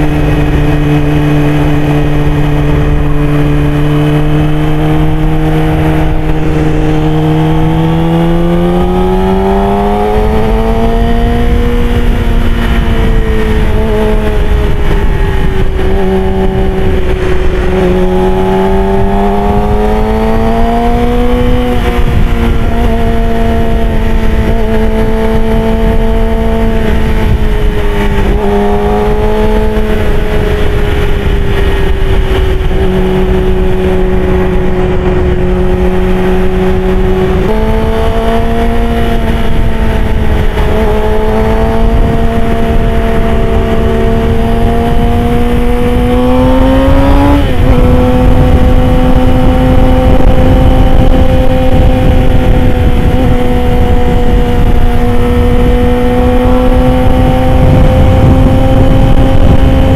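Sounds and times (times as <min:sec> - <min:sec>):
motorcycle engine at speed: 0:00.0 - 0:59.9
wind rushing: 0:00.0 - 0:59.9.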